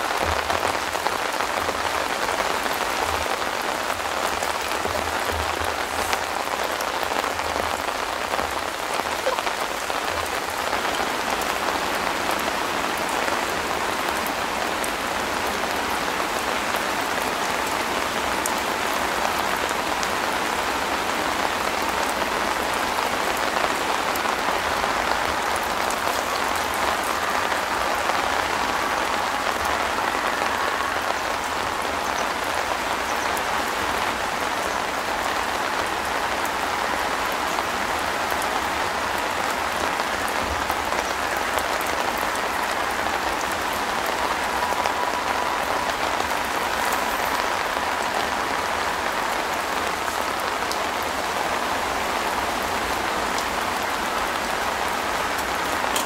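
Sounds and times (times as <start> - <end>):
rain on fabric roof: 0.0 - 56.0.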